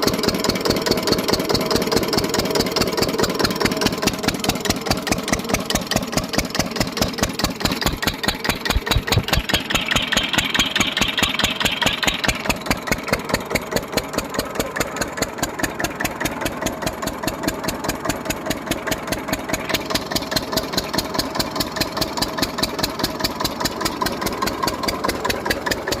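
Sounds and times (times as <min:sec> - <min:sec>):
old engine idling: 0:00.0 - 0:26.0.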